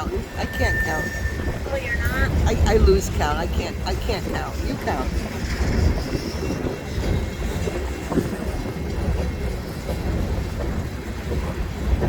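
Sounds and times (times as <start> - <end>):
train cars rumbling: 0.0 - 12.0.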